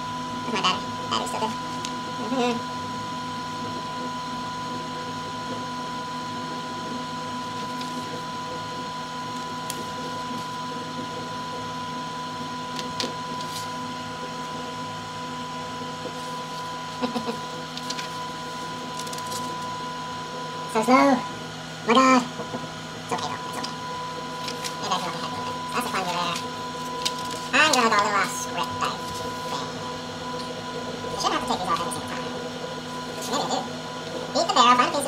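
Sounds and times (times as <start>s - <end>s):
stepper motor whine: 0.0s - 35.0s.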